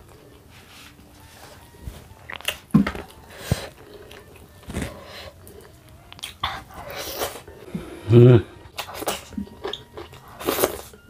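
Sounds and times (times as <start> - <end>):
man chewing food: 0.0 - 11.0.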